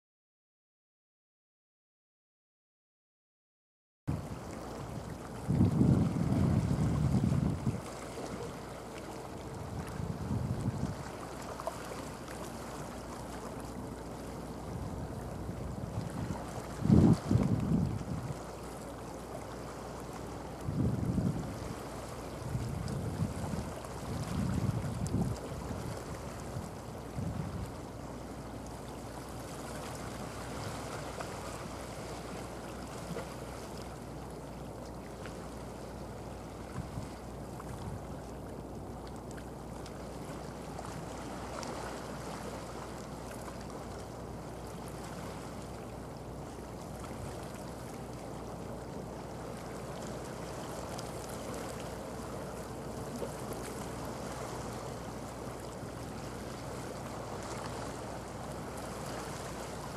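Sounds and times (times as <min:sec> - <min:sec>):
low boat engine drone: 0:04.1 - 0:59.9
sea water washing: 0:04.1 - 0:59.9
wind: 0:04.1 - 0:59.9.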